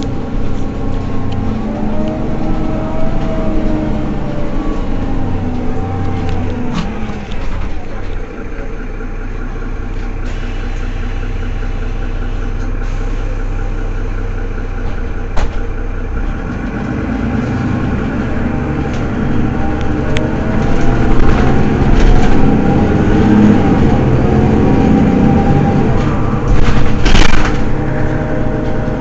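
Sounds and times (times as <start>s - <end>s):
bus diesel engine: 0.0s - 29.0s.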